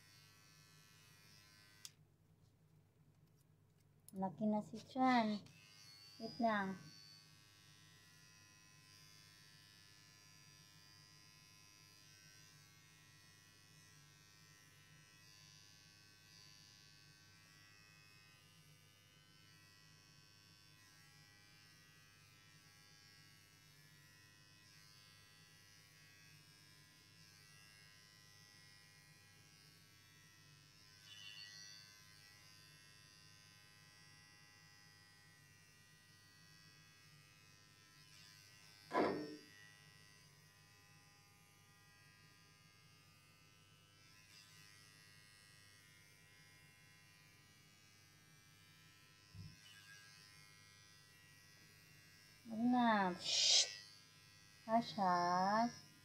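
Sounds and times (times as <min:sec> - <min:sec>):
electric hair clippers buzzing: 0:00.0 - 0:02.0, 0:05.1 - 0:56.0.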